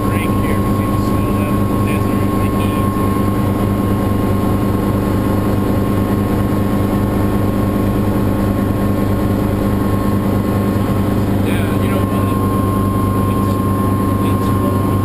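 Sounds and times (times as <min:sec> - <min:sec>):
small aircraft engine drone: 0:00.0 - 0:15.0.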